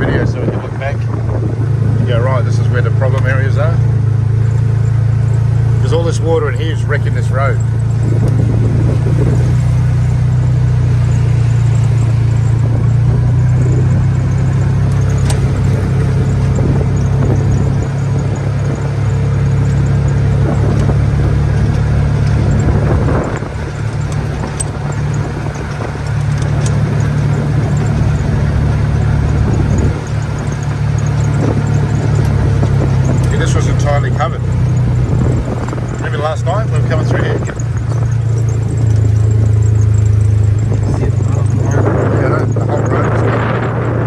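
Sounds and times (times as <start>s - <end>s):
vehicle engine and road drone: 0.0s - 44.0s.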